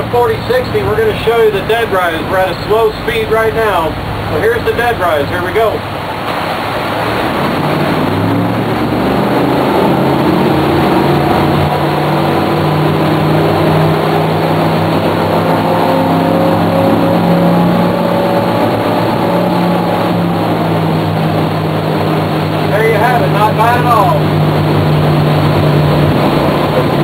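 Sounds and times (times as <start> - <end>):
boat engines revving up: 0.0 - 27.0
rushing water noise: 0.0 - 27.0.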